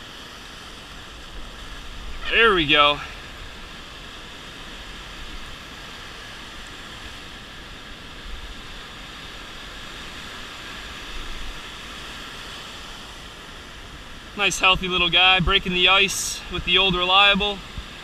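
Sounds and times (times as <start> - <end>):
surf churning and washing: 0.0 - 18.0.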